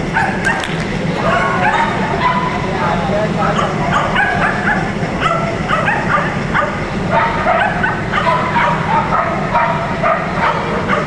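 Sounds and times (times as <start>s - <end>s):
dog barking and yipping: 0.1s - 2.6s, 3.5s - 11.0s.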